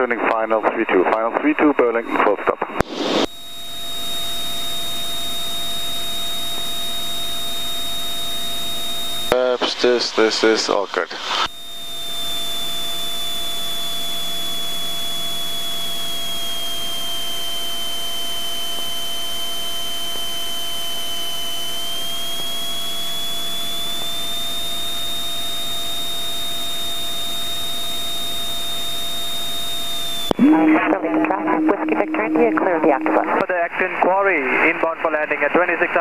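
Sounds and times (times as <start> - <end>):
high whine: 2.0 - 35.4.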